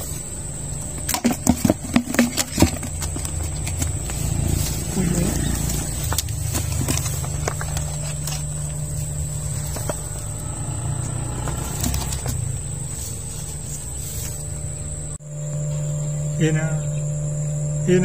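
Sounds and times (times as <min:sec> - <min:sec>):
high-pitched insect drone: 0:00.0 - 0:18.0
low rumbling noise: 0:02.9 - 0:18.0.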